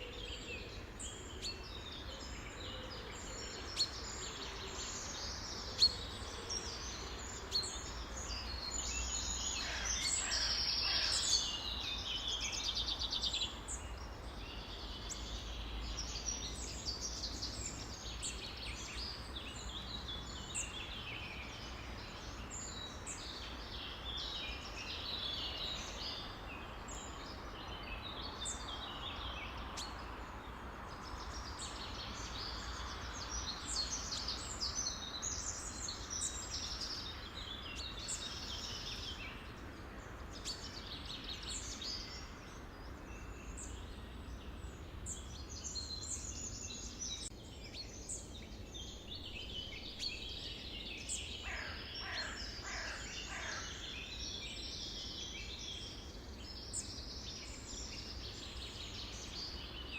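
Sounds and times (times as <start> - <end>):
songbirds chorus: 0.0 - 59.9.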